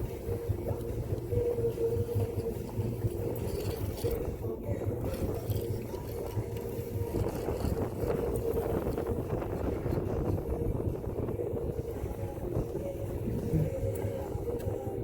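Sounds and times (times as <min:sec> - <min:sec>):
boat motor humming: 0:00.0 - 0:15.0
wind buffeting microphone: 0:00.0 - 0:15.0.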